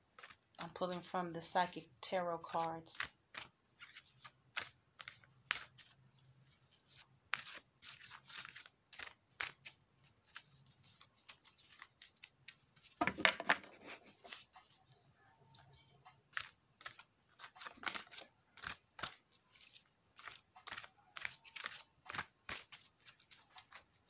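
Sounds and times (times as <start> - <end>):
cards being shuffled: 0.1 - 1.8, 2.5 - 24.0.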